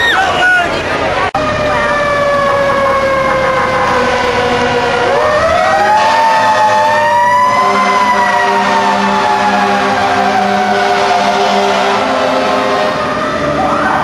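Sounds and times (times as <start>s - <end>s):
fire truck siren wailing: 0.0s - 14.0s.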